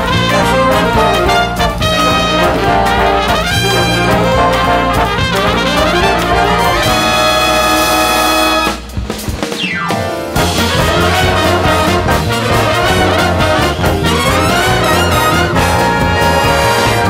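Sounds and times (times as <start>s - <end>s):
jazz big band playing: 0.0s - 17.0s.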